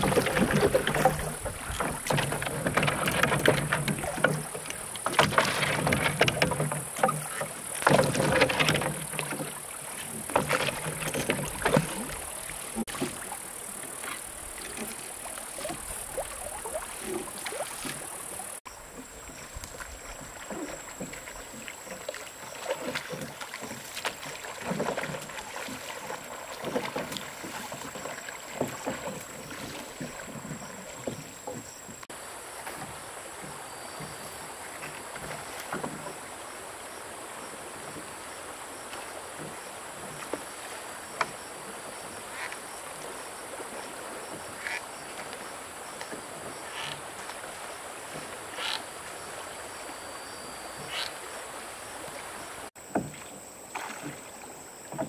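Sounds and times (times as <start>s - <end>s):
oars splashing in water: 0.0s - 55.0s.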